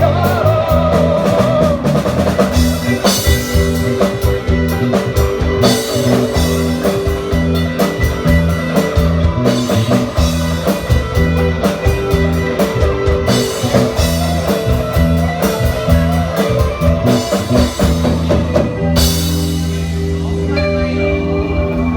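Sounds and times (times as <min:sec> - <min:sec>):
band music with electric guitar: 0:00.0 - 0:21.9.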